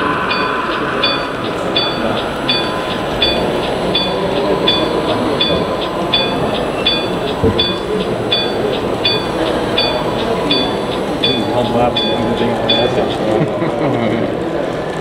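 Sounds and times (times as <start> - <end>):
warning bell ringing: 0.0 - 13.8
crowd murmur: 0.0 - 15.0.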